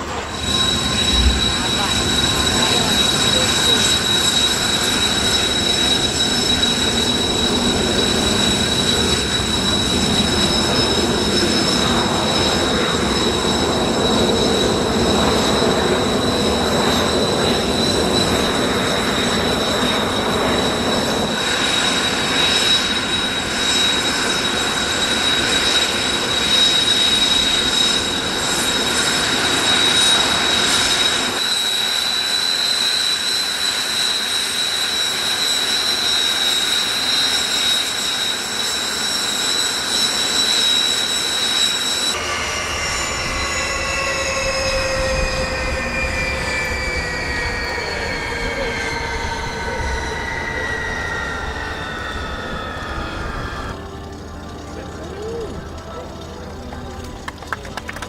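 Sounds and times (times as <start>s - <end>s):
jet engines whining and roaring: 0.0s - 58.0s.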